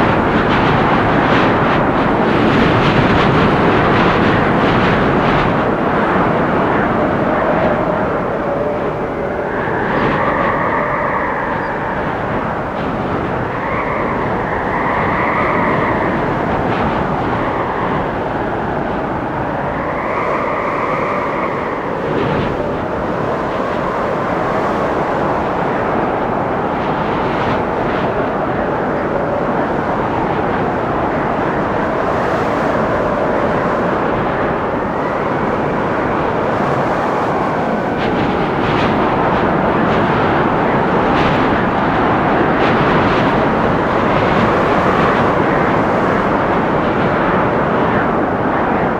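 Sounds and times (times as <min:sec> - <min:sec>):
wind gusting through trees: 0:00.0 - 0:48.9.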